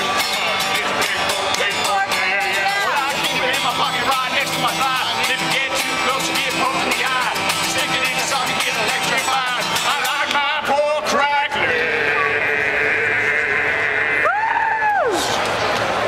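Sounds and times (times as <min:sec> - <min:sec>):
acoustic guitar strumming: 0:00.0 - 0:14.2
men singing: 0:00.1 - 0:14.3.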